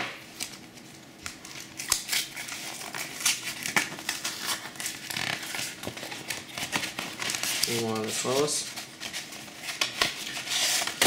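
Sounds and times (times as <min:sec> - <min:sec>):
plastic envelope crinkling: 0:00.3 - 0:11.0.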